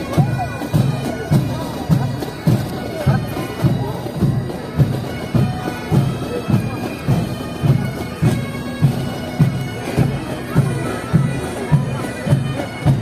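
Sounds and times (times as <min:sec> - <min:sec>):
bagpipes playing: 0:00.0 - 0:13.0.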